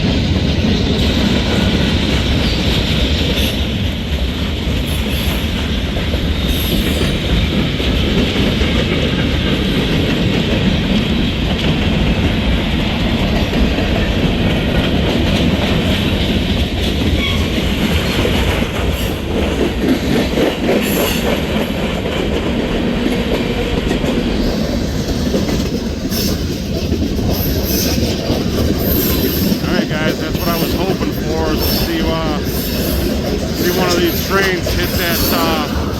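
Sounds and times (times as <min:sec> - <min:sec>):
freight train cars rolling past: 0:00.0 - 0:35.9
steel wheels on rails: 0:00.0 - 0:35.9.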